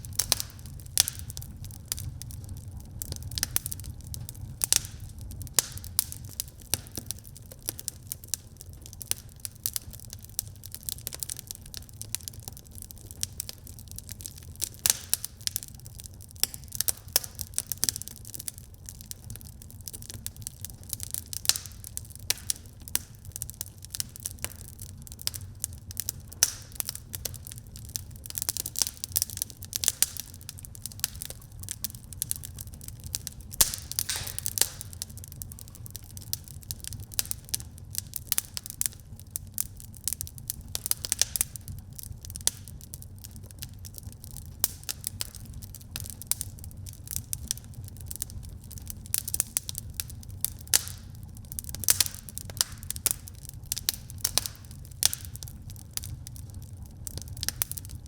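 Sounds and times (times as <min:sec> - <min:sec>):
low steady fire rumble: 0:00.0 - 0:58.0
wood fire crackling and popping: 0:00.0 - 0:58.0.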